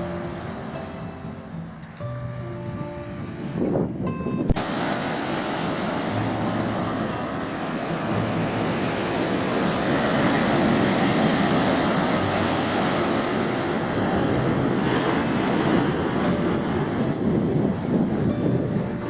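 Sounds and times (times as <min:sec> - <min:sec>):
ocean waves washing ashore: 0:00.0 - 0:19.0
wind buffeting microphone: 0:02.4 - 0:19.0.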